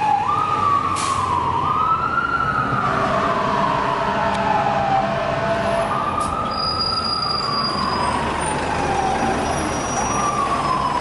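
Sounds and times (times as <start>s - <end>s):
fire truck siren wailing: 0.0s - 11.0s
traffic and engines rumbling: 0.0s - 11.0s.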